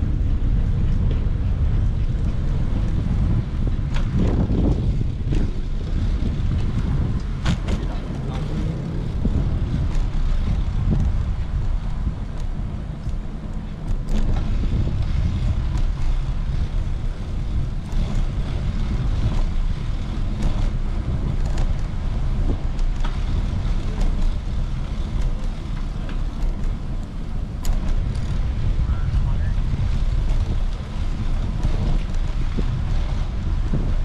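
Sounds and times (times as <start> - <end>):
wind buffeting microphone: 0.0 - 34.0
light clicks and rattles: 1.8 - 34.0.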